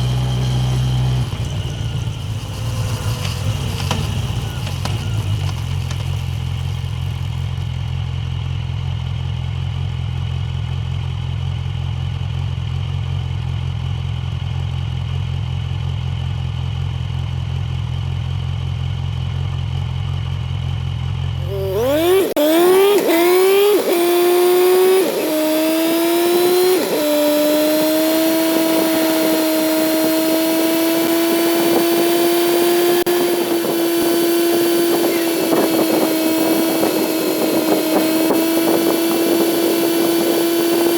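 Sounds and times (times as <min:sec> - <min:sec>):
motorcycle engine idling and accelerating: 0:00.0 - 0:40.9.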